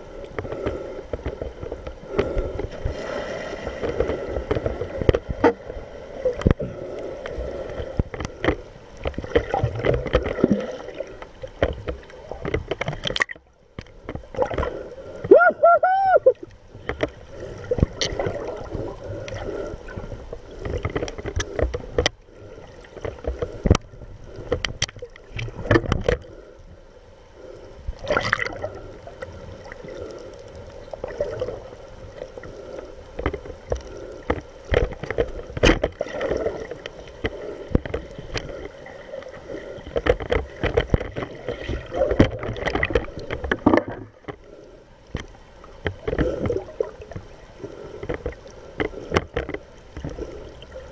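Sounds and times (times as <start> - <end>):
water rushing and bubbling underwater: 0.0 - 50.9.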